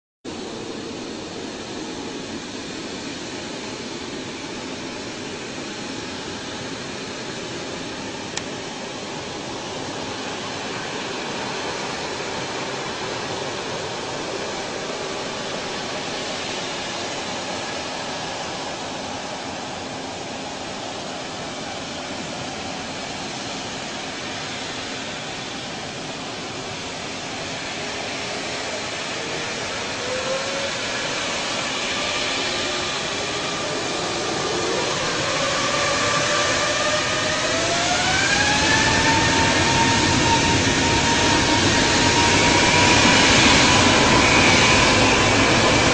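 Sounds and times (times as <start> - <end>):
jet engines rushing: 0.3 - 45.9.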